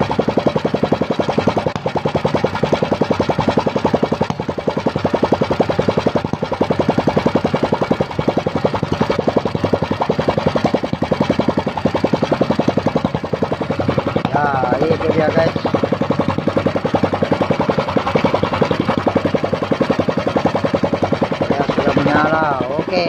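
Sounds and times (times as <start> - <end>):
small boat motor running: 0.0 - 23.0.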